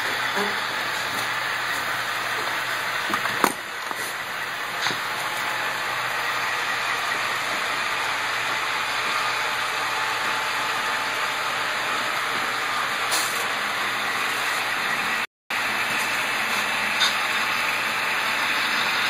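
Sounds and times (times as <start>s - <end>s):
model train whirring: 0.0s - 19.0s.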